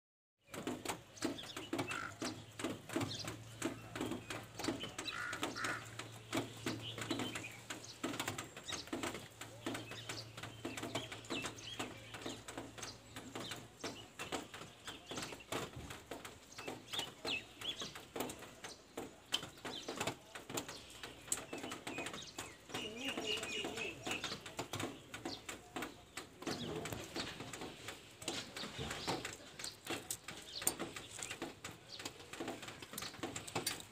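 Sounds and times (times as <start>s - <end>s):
birds calling: 0.4s - 33.9s
birds chirping: 0.4s - 33.9s.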